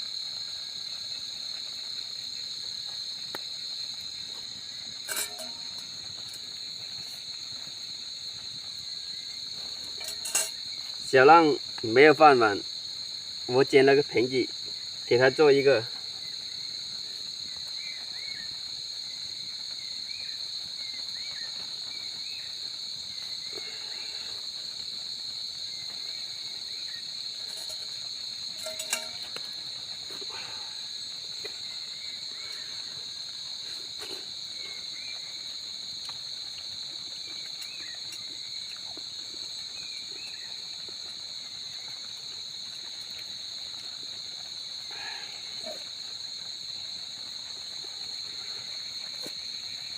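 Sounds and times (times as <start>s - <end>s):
insect chorus trilling: 0.0s - 49.9s.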